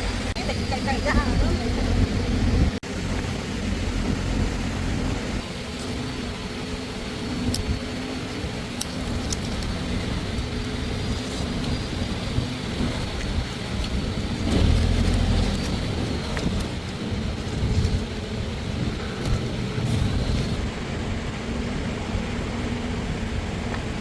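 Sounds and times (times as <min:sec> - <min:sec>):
engine running with low rumble: 0:00.0 - 0:24.0.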